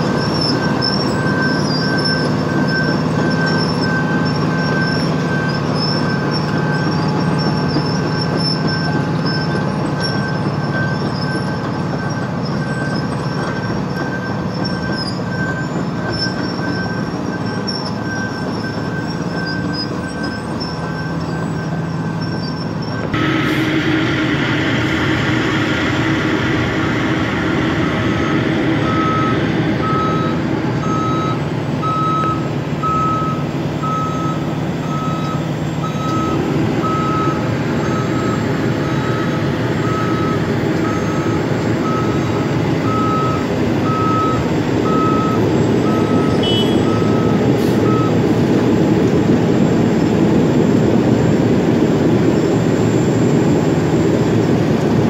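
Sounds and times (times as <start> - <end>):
diesel engine rumble: 0.0 - 55.0
road milling machine noise: 0.0 - 55.0
truck backup alarm beeping: 0.0 - 55.0.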